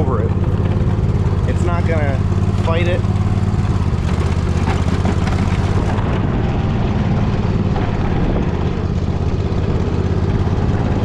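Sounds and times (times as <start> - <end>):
riding mower engine under load: 0.0 - 11.0.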